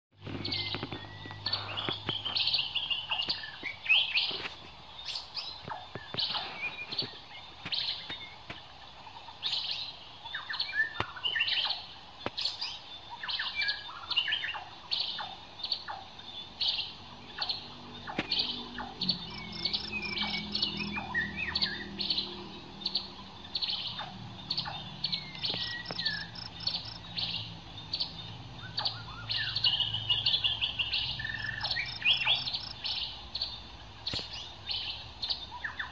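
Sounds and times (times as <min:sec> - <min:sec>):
birds chirping: 0:00.1 - 0:35.9.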